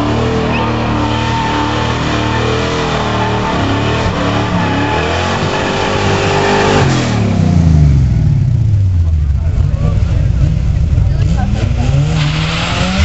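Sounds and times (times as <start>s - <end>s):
drag racing car engines revving: 0.0s - 13.0s.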